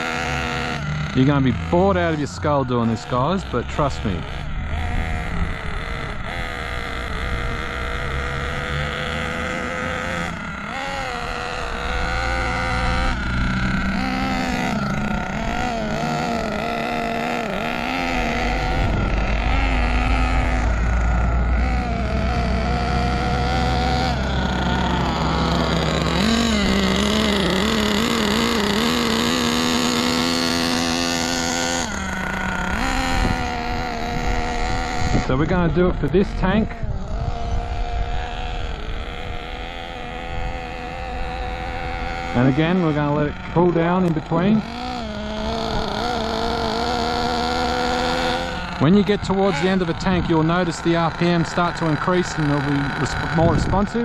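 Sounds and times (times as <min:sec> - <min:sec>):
small two-stroke engine running: 0:00.0 - 0:54.0.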